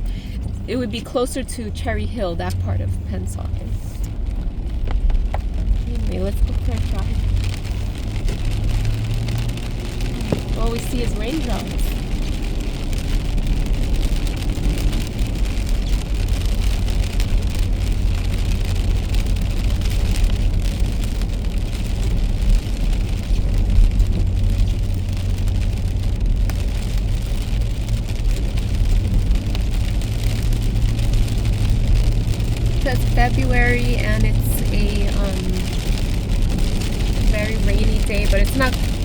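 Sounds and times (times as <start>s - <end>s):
car engine and tyres rumbling: 0.0s - 39.0s
rain hiss on wet road: 0.0s - 39.0s.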